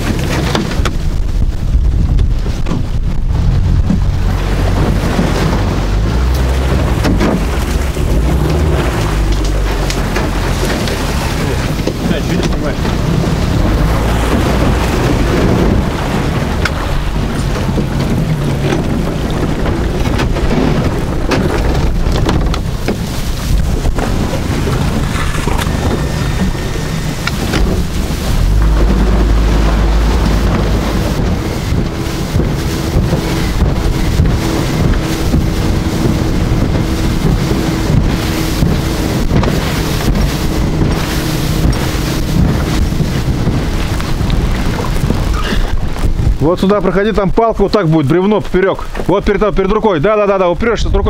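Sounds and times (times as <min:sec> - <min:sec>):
outboard motor running: 0:00.0 - 0:51.0
water splashing against hull: 0:00.0 - 0:51.0
wind on microphone: 0:00.0 - 0:51.0.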